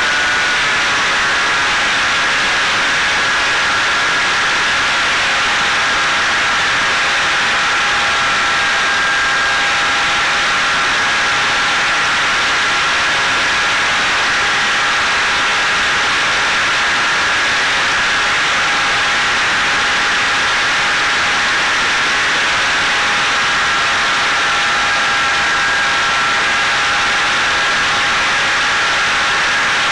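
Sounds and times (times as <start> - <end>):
electric motor whine: 0.0 - 29.9.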